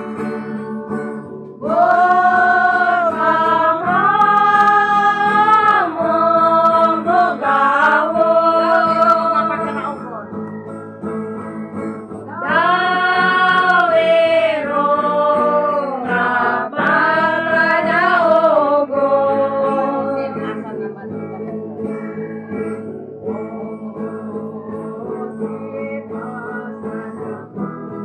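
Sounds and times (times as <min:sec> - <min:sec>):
people singing: 0:00.0 - 0:20.8, 0:21.8 - 0:28.0
acoustic guitar: 0:00.0 - 0:28.0.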